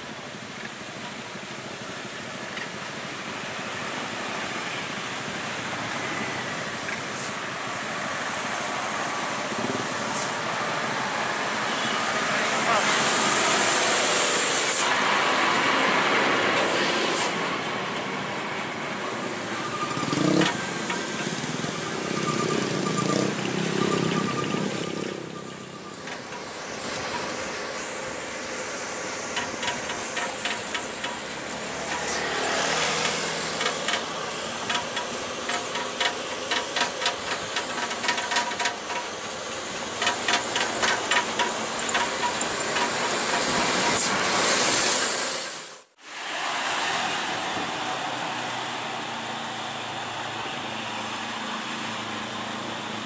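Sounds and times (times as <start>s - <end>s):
road and engine noise: 0.0s - 53.0s.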